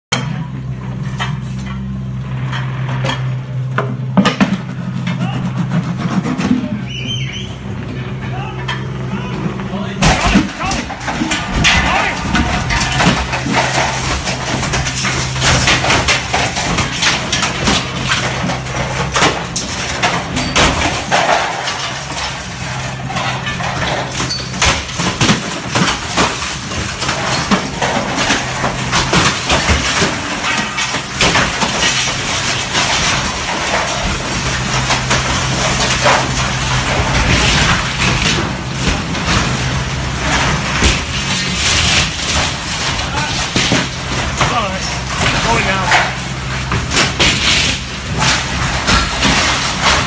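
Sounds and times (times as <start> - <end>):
excavator engine humming: 0.2 - 50.0
breaking glass and metal crashing: 9.8 - 50.0.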